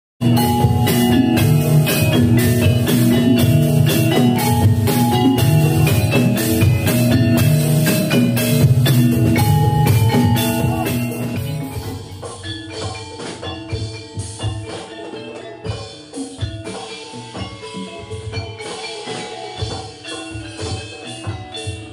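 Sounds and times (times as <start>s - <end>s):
drums: 0.2s - 21.9s
metallophones ringing melody: 0.2s - 21.9s.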